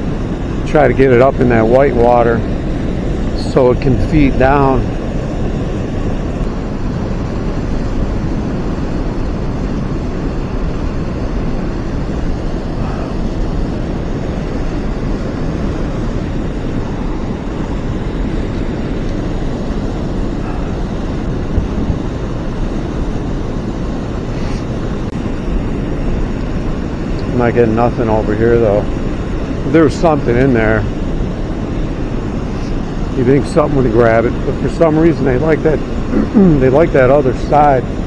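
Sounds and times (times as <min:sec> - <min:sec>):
white water rushing over dam: 0:00.0 - 0:38.0
wind noise on microphone: 0:00.0 - 0:38.0.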